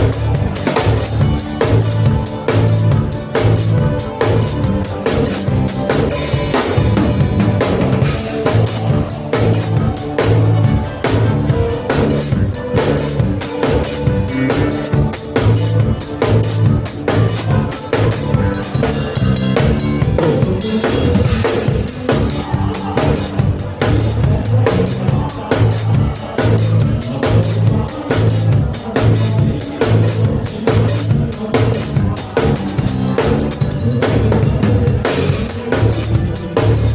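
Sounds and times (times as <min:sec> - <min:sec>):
button accordion: 0:00.0 - 0:34.0
bass: 0:00.0 - 0:36.9
drum kit beat: 0:00.0 - 0:36.9.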